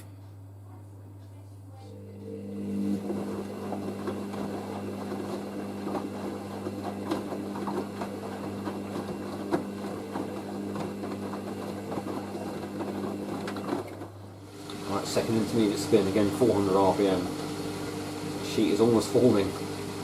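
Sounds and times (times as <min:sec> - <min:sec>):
washing machine electric hum: 0:00.0 - 0:20.0.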